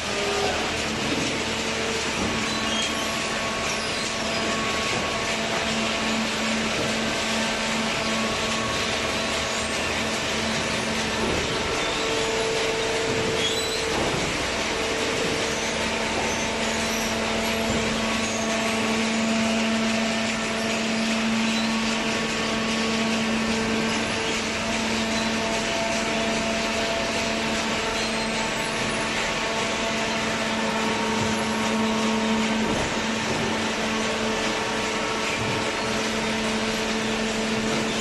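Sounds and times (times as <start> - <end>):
hydraulic baler humming: 0.0 - 38.0.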